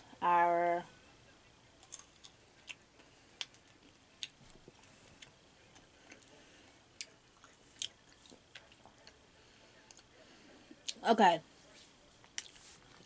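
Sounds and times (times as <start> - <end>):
faint chewing of candy: 1.8 - 11.0, 11.7 - 13.0.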